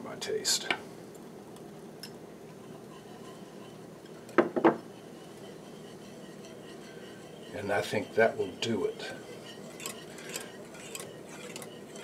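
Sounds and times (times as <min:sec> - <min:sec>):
whisk clinking against saucepan: 0:02.0 - 0:12.0.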